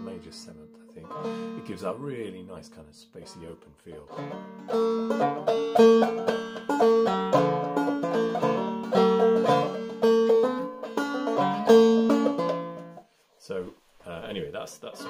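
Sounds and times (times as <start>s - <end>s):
banjo played clawhammer style: 0.0s - 15.0s.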